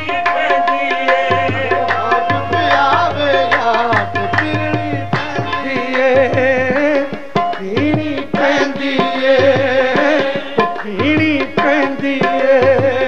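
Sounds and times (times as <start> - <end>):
devotional music with melody: 0.0 - 13.0
tabla drumming: 0.0 - 13.0.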